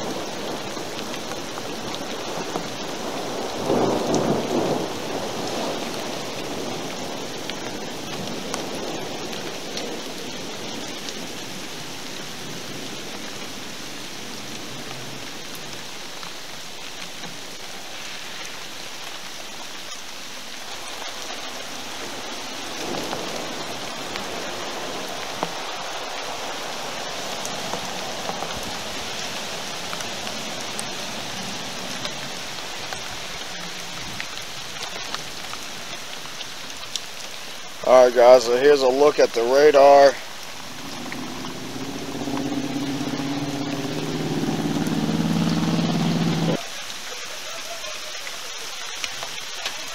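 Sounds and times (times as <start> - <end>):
sharp raindrop ticks: 0.0 - 49.9
steady rain: 0.0 - 49.9.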